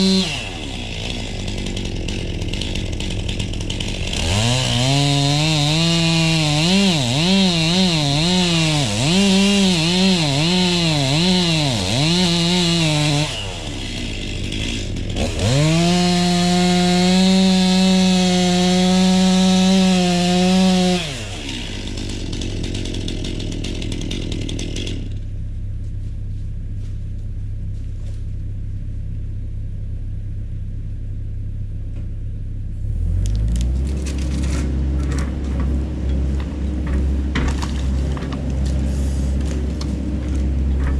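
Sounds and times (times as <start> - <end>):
chainsaw revving: 0.0 - 25.2, 32.8 - 40.9.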